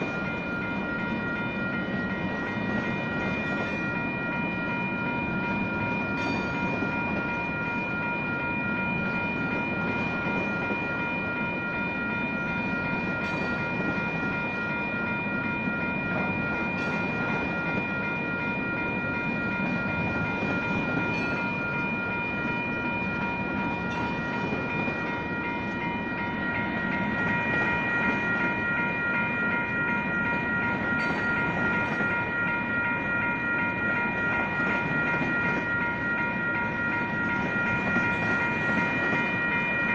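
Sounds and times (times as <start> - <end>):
railroad crossing bells ringing: 0.0 - 39.9
train rumble and wheel clatter: 0.0 - 39.9.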